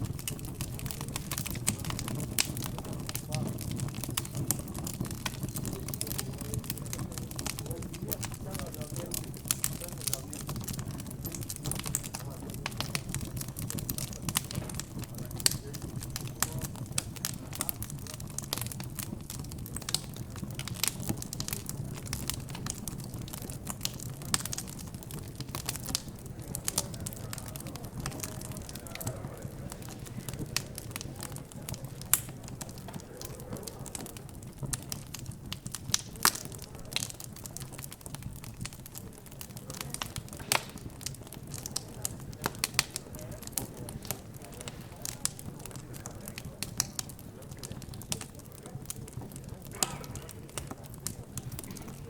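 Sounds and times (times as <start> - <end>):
fire crackling and popping: 0.0 - 52.0
murmur of background chatter: 0.0 - 52.0.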